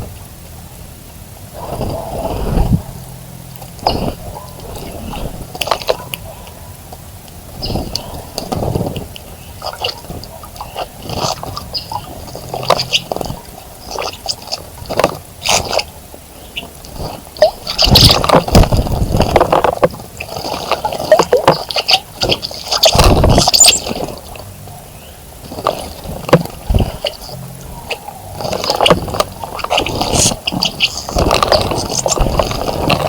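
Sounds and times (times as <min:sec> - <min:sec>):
water splashing in a bird bath: 0:02.8 - 0:33.0.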